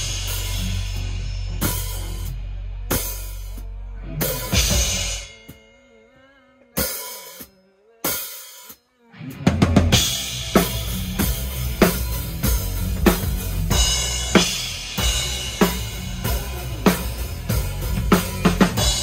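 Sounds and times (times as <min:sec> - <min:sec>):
rock band playing: 0:00.0 - 0:05.6, 0:09.2 - 0:19.0
drum kit playing steady beat: 0:00.0 - 0:05.8, 0:06.8 - 0:19.0.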